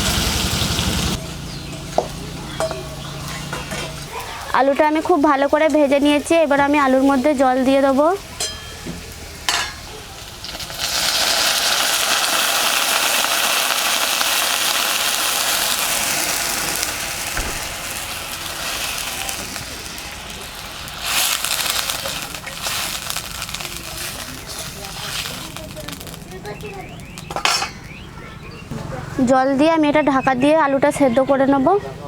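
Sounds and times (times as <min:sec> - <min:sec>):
water sizzling in hot oil: 0:00.0 - 0:27.3.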